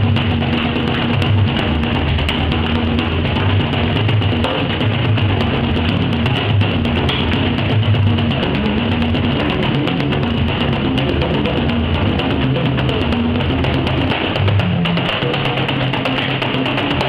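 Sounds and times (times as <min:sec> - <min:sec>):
bodhran drumming with tippers: 0:00.0 - 0:17.0.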